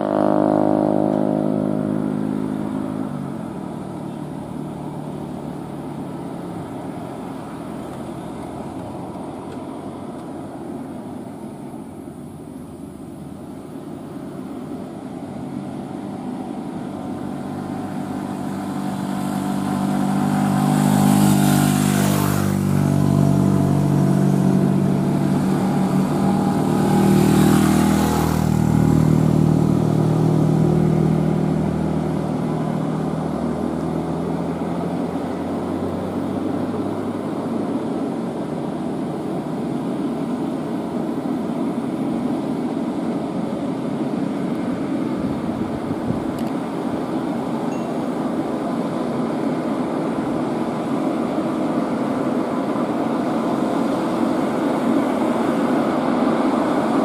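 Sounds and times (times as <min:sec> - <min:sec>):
truck diesel engine labouring: 0:00.0 - 0:57.0.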